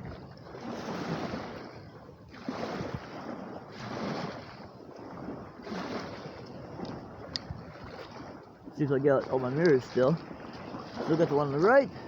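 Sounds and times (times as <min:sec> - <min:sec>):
waves washing against shore: 0:00.0 - 0:12.0
wind buffeting microphone: 0:00.0 - 0:12.0.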